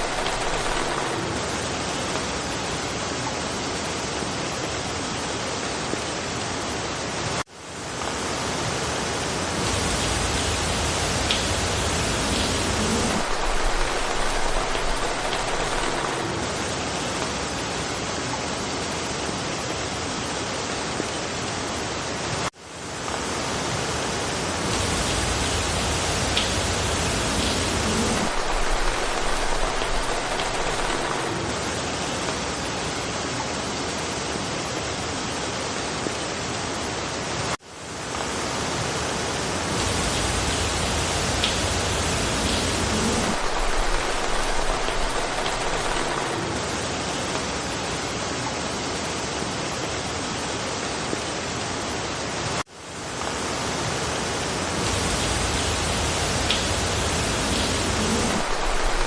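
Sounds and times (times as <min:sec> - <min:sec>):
rain falling through forest: 0:00.0 - 0:59.0.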